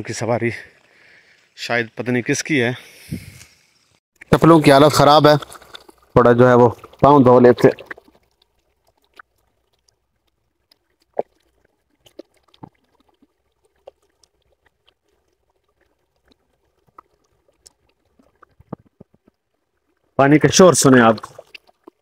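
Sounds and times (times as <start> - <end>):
stream trickling over stones: 0.0 - 22.0
small water splashes: 4.2 - 22.0.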